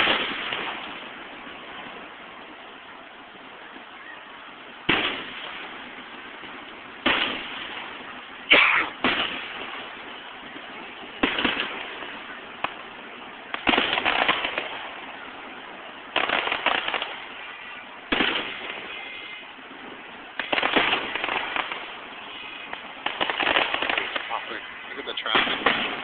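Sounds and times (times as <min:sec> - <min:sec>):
fireworks bursting: 0:00.0 - 0:26.0
fireworks crackling: 0:00.0 - 0:26.0
steady background hiss: 0:00.0 - 0:26.0.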